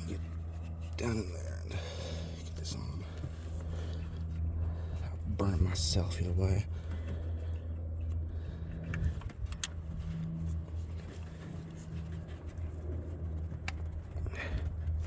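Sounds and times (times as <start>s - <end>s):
engine idling with misfire: 0.0s - 15.0s.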